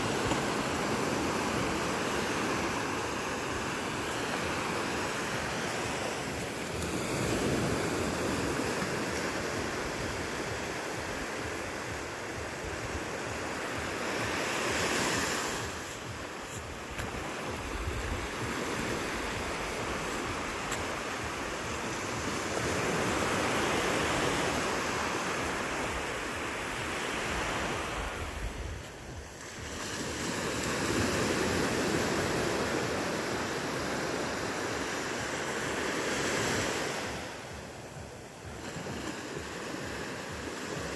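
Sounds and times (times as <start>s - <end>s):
small waves breaking on a beach: 0.0s - 40.9s.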